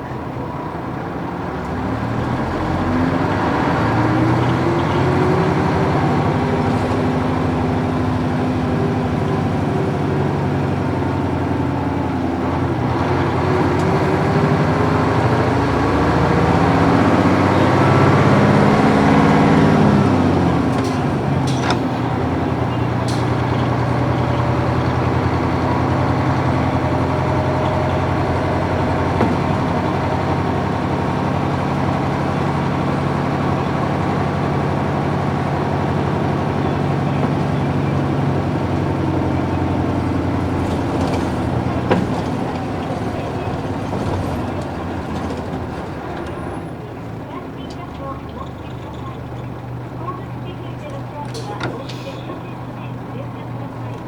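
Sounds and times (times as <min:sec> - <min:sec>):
bus diesel engine from inside: 0:00.0 - 0:54.0.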